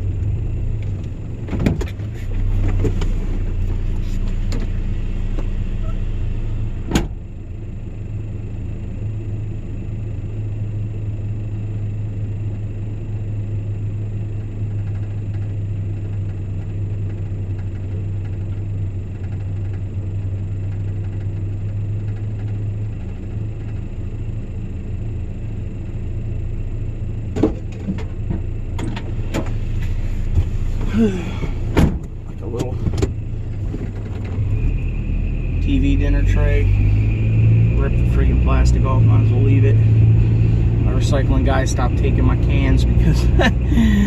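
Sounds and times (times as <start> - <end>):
vehicle engine rumbling: 0.0 - 44.0.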